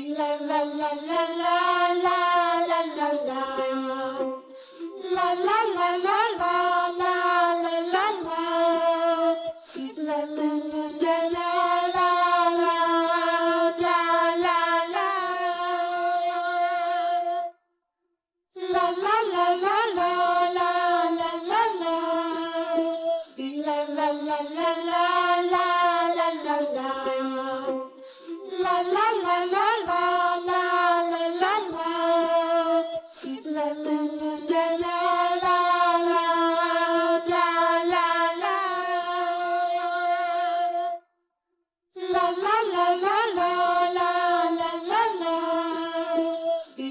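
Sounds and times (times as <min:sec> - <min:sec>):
child-like voice singing: 0:00.0 - 0:17.5, 0:18.6 - 0:41.0, 0:42.0 - 0:46.9.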